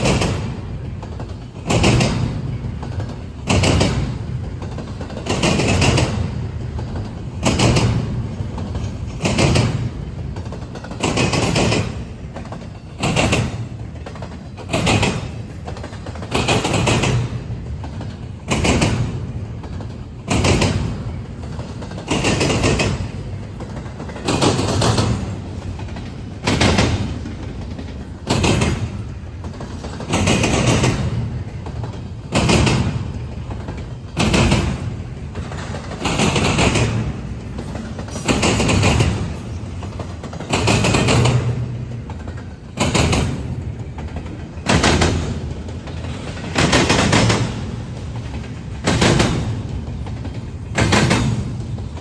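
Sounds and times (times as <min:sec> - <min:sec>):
train wheels clattering over rail joints: 0:00.0 - 0:52.0.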